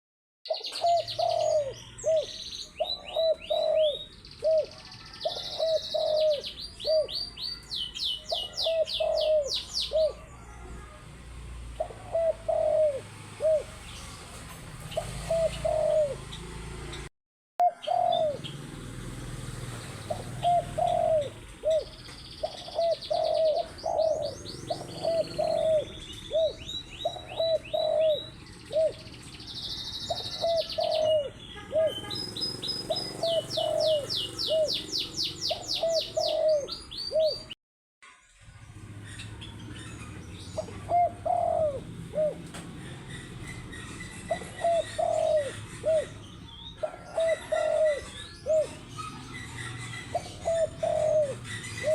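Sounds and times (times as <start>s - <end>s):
dove cooing: 0.5s - 10.6s, 11.8s - 14.0s, 14.9s - 16.4s, 17.6s - 18.5s, 20.0s - 29.2s, 29.8s - 37.6s, 39.8s - 51.9s
small birds trilling: 0.5s - 18.8s, 19.4s - 37.6s, 38.5s - 51.9s.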